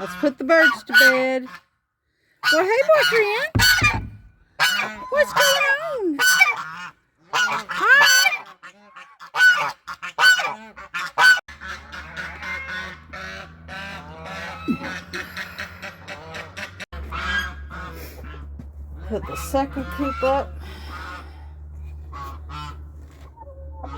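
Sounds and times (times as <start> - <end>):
goose honking: 0.0 - 1.6, 2.4 - 23.9.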